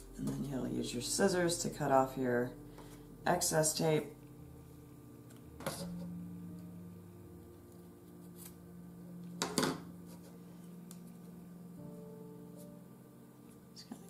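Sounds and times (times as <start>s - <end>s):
faint low drone: 0.0s - 14.0s.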